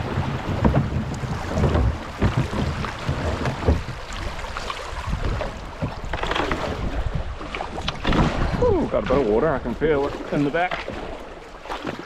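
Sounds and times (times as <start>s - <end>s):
wind buffeting microphone: 0.0s - 10.1s
paddle knocking on hull: 0.0s - 12.0s
water splashing: 0.0s - 12.0s.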